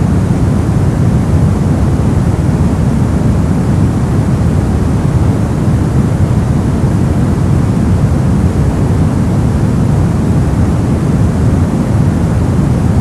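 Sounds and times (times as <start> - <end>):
brown noise rumbling hiss: 0.0 - 13.0.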